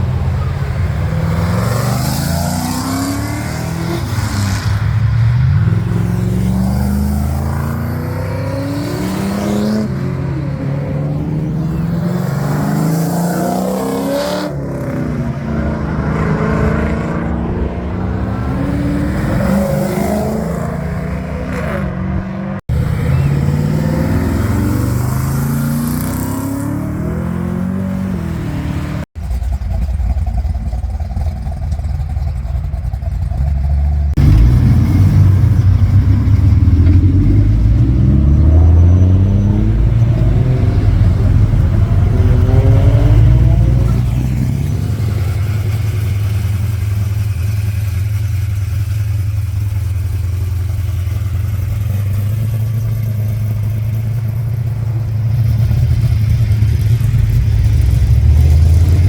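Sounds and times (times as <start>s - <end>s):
car engines accelerating hard: 0.0s - 29.1s, 34.1s - 59.0s.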